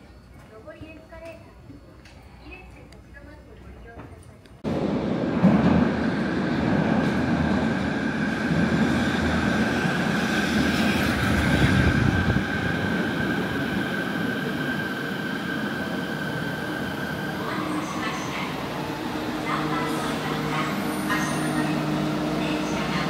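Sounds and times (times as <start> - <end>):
train rumbling on rails: 3.8 - 23.0.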